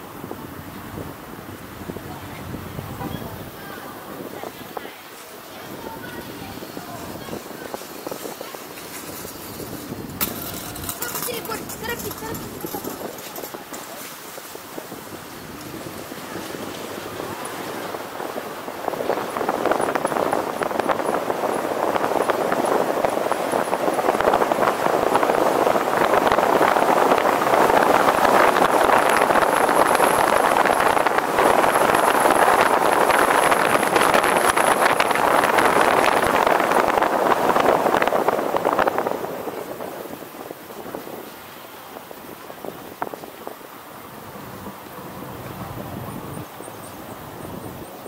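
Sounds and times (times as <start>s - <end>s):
road traffic rushing: 0.0s - 48.0s.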